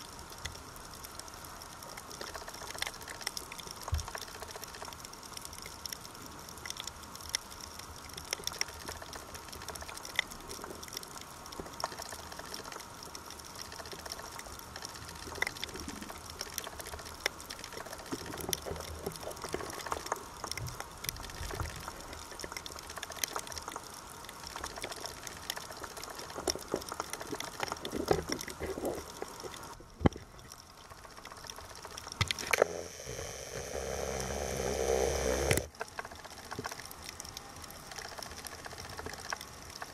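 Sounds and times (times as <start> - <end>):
sharp underwater clicks and crackles: 0.0 - 39.9
underwater water noise: 0.0 - 39.9.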